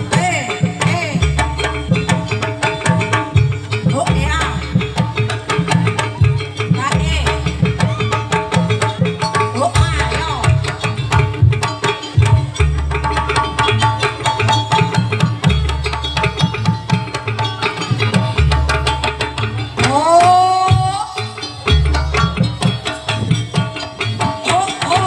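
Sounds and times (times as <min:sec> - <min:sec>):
fast hand drum strokes: 0:00.0 - 0:25.0.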